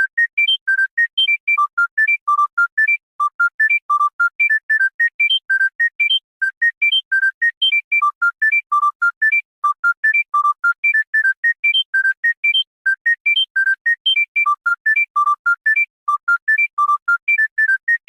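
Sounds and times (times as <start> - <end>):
electronic phone ringtone melody: 0.0 - 18.0.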